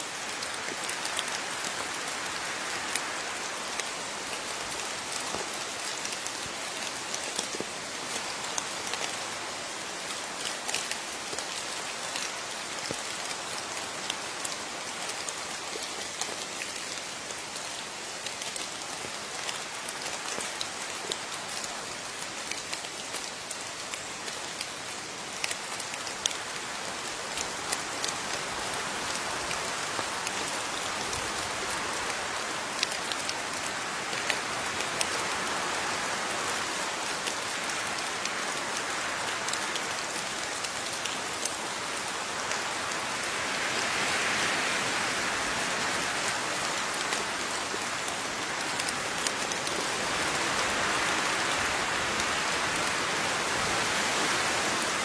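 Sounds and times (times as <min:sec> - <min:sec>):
rain falling: 0:00.0 - 0:55.0
raindrops pattering: 0:00.1 - 0:55.0.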